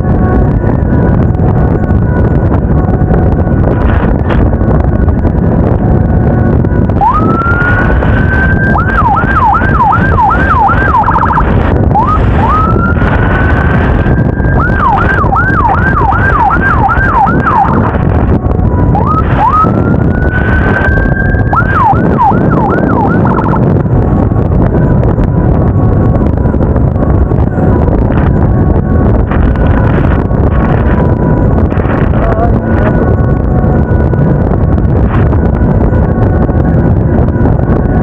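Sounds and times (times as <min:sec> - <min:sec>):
electronic emergency siren wailing: 0:00.0 - 0:38.0
motorcycle rumble: 0:00.0 - 0:38.0
wind: 0:00.0 - 0:38.0.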